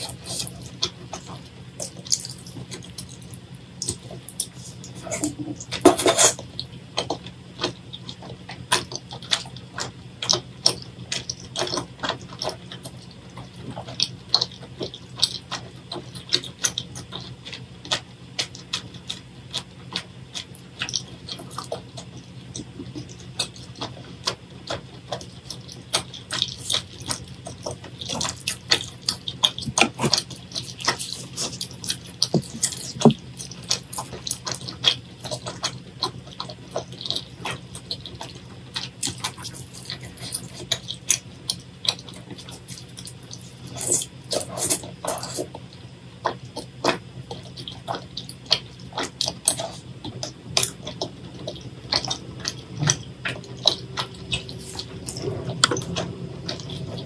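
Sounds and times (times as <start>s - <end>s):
low hum: 0.0s - 57.0s
wet chewing and mouth sounds: 0.0s - 57.0s.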